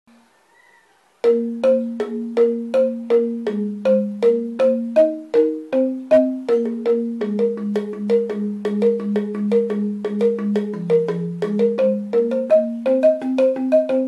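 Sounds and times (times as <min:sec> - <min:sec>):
bamboo xylophone struck: 0:01.2 - 0:14.0.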